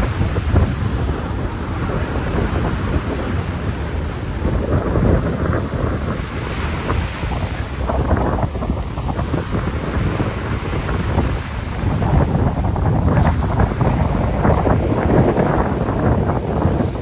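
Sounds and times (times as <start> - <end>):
choppy water washing: 0.0 - 17.0
gusty wind buffeting microphone: 0.0 - 17.0.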